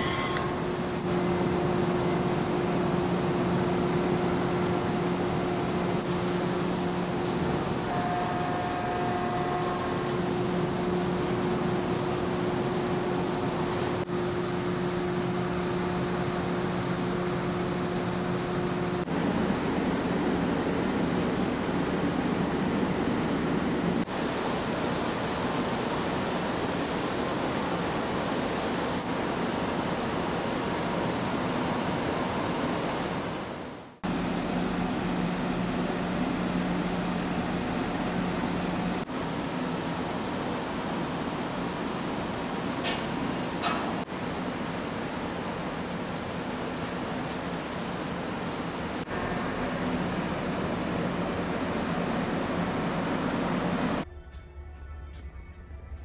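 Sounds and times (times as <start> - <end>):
low machinery drone: 0.0 - 56.0
wind and sea rushing: 8.6 - 54.0.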